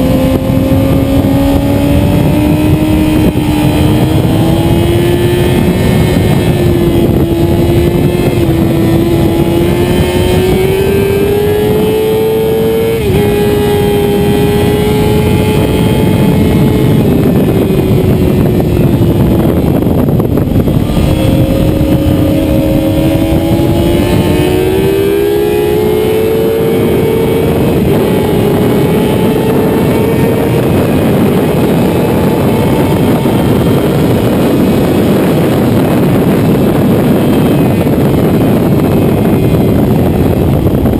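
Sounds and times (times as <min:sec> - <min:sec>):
motorcycle engine revving: 0:00.0 - 0:40.9
wind noise rushing: 0:00.0 - 0:40.9.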